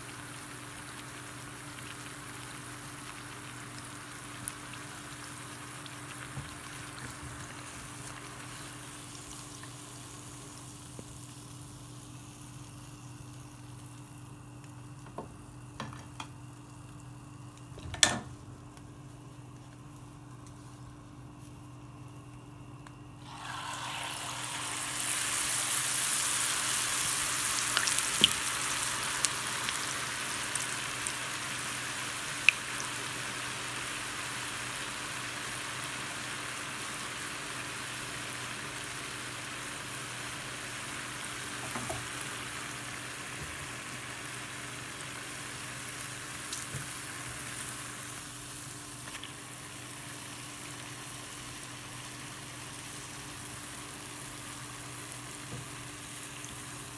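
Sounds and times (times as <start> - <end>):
batter sizzling in hot oil: 0.0 - 17.8, 19.4 - 56.9.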